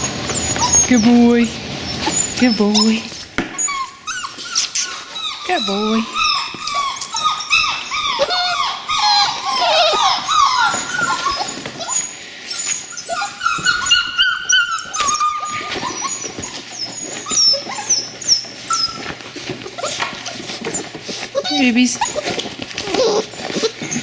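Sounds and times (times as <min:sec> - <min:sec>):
puppies whining and yelping: 0:00.0 - 0:24.0.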